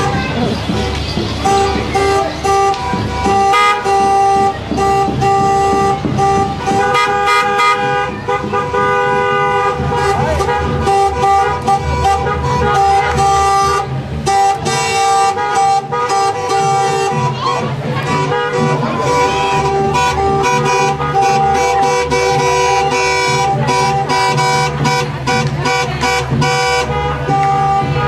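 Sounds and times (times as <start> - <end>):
car horns honking: 0.0 - 28.0
voices: 0.0 - 28.0.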